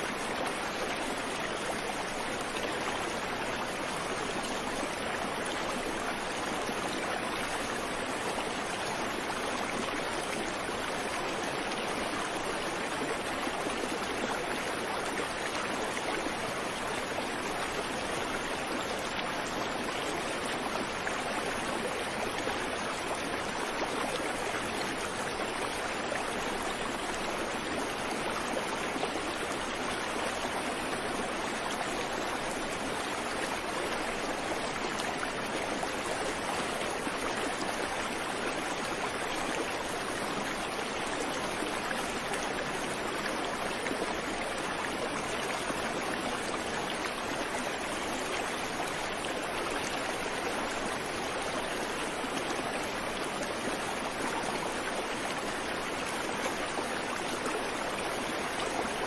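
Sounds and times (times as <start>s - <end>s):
creek water babbling over rocks: 0.0s - 59.0s.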